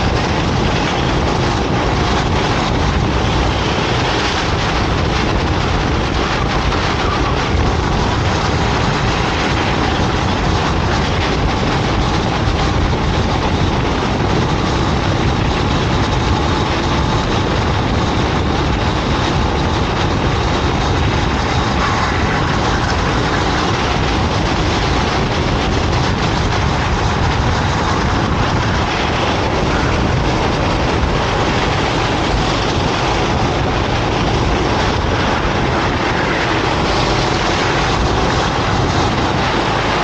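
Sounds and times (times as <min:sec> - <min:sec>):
racing kart engine at speed: 0:00.0 - 0:40.0.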